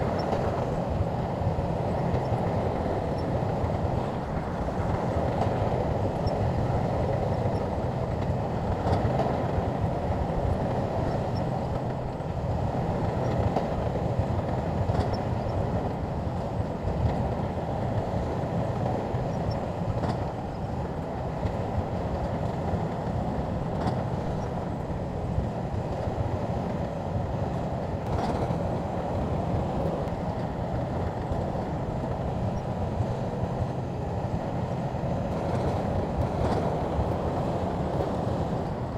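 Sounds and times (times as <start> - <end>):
bulldozer diesel engine running: 0.0 - 38.9
steel tracks clanking: 0.0 - 38.9.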